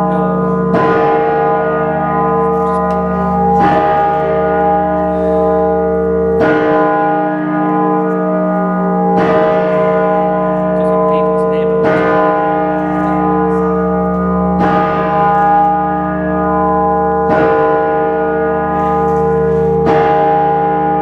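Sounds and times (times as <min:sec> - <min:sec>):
big bell striking: 0:00.0 - 0:21.0.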